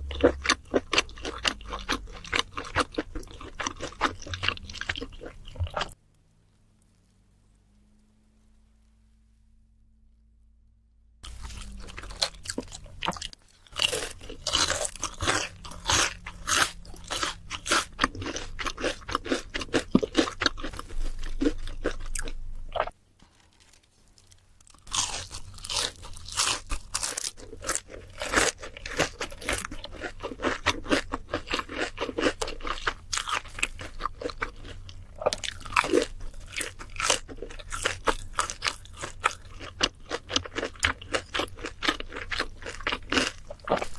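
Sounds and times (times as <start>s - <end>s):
crunching and chewing fried food: 0.0s - 8.3s, 11.2s - 43.9s.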